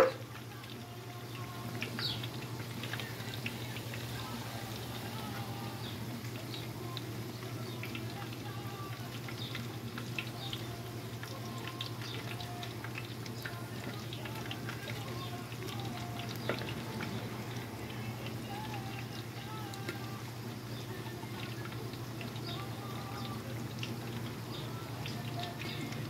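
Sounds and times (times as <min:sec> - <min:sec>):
tortillas sizzling in hot oil: 0:00.0 - 0:26.0.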